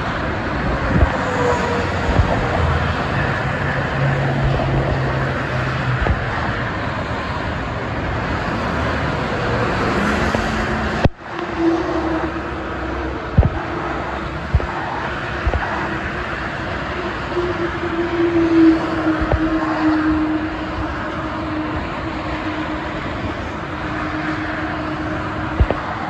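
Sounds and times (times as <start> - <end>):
expressway traffic rushing: 0.0 - 26.0
truck engine drone: 0.0 - 26.0.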